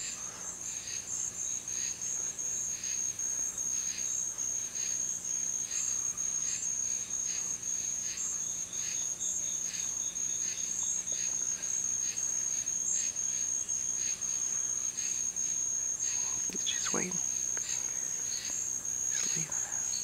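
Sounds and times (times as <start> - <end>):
high cricket trill: 0.0 - 20.0
insect chirping in short pulses: 0.0 - 20.0.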